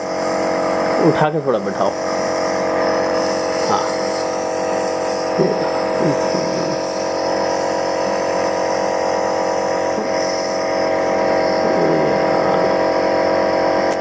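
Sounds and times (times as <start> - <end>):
airy hiss: 0.0 - 14.0
nebulizer motor humming: 0.0 - 14.0.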